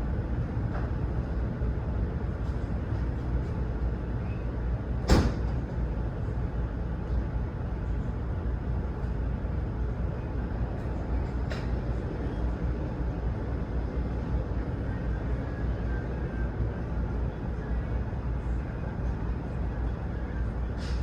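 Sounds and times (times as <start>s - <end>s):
low rumble of vehicle engines: 0.0s - 21.0s.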